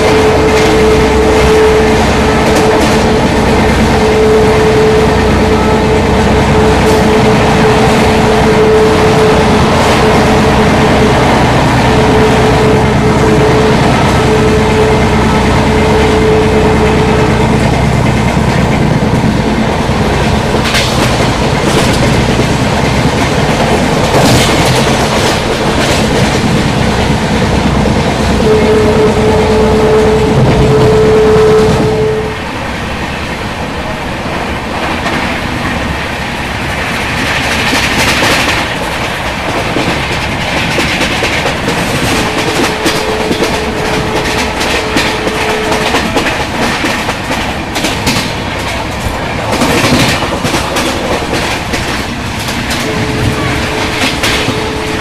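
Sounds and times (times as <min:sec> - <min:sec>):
train horn: 0:00.0 - 0:22.6, 0:23.7 - 0:32.9, 0:40.6 - 0:55.0
train wheels clacking on rails: 0:00.0 - 0:32.1, 0:33.0 - 0:55.0.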